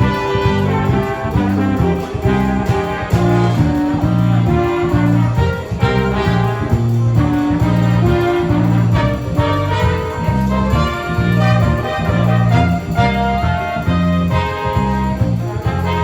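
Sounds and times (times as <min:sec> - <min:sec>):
upbeat brass music: 0:00.0 - 0:16.0.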